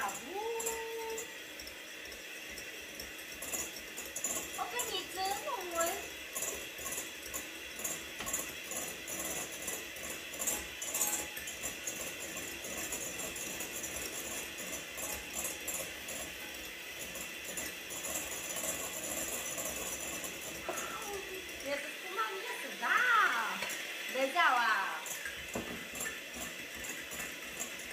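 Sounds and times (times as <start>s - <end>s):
whisk rattling against bowl: 0.0s - 27.9s.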